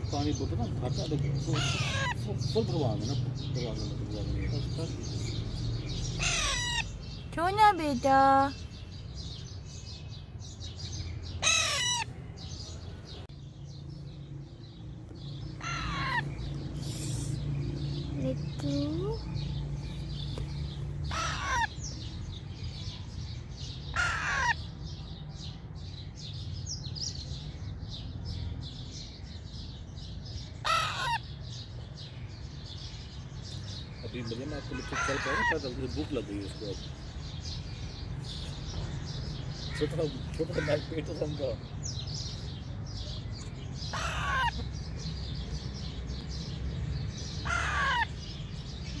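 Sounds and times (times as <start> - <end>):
harsh bird calls falling in pitch: 0.0 - 13.3, 15.1 - 19.2, 19.8 - 28.0, 28.9 - 46.3, 47.2 - 49.0
small birds chirping: 0.0 - 49.0.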